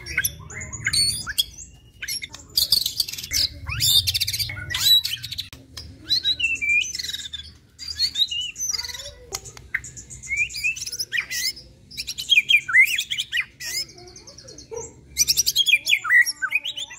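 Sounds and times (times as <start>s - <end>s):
songbird singing trills and whistles: 0.0s - 16.9s.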